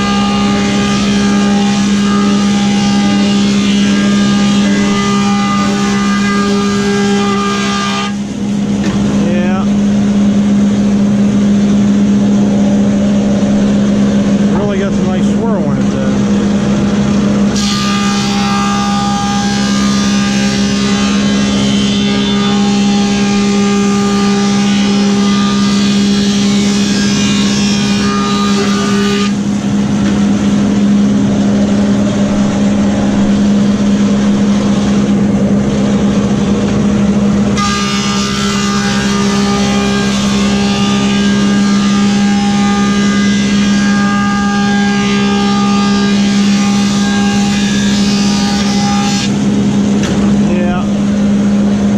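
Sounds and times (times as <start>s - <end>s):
planer cutting board: 0.0s - 9.6s, 17.1s - 50.8s
planer humming: 0.0s - 51.9s.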